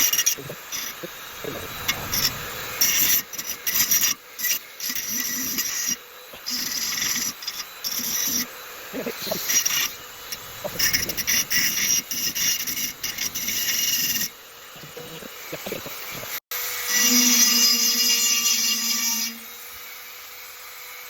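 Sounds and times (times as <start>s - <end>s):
rotary tool grinding metal: 0.0s - 19.6s.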